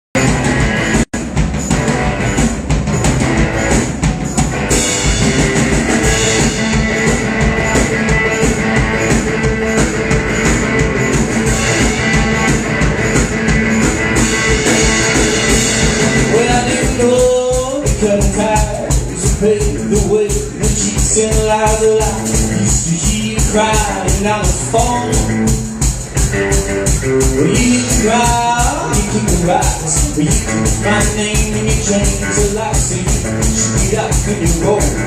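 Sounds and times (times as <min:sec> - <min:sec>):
rock band playing: 0:00.1 - 0:35.0.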